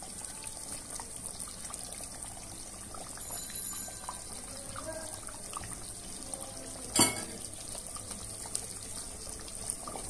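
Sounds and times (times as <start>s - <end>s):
curry simmering bubbling: 0.0s - 10.0s.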